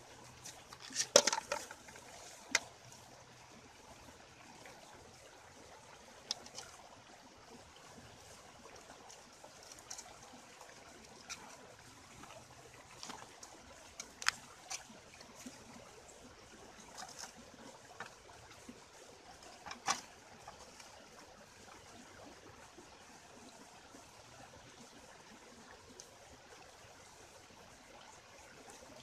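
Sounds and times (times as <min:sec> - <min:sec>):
stream rushing: 0:00.0 - 0:29.0.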